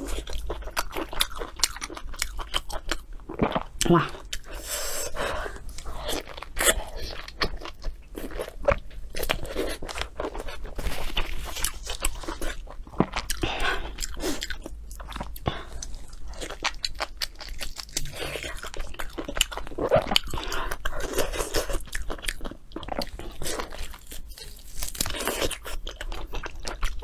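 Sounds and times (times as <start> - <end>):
chewing and tearing meat: 0.0 - 27.0.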